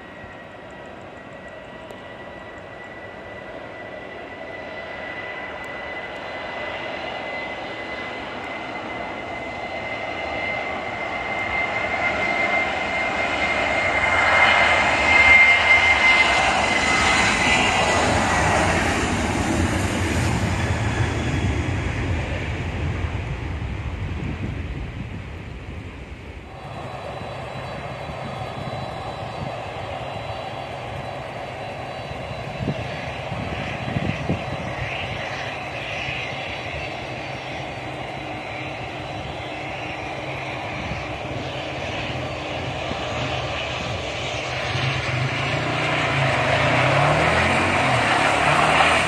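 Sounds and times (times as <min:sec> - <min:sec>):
jet engines whining and roaring: 0:00.0 - 0:49.0.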